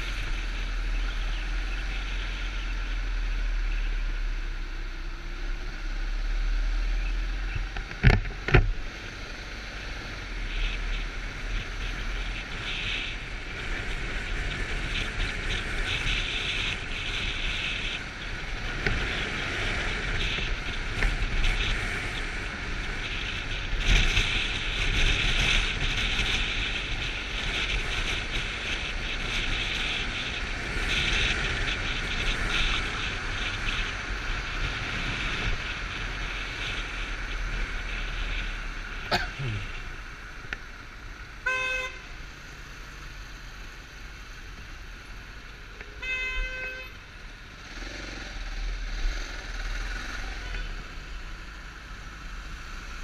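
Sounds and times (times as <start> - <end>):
motorcycle engine running: 0.0 - 53.0
wind rush on microphone: 5.4 - 53.0.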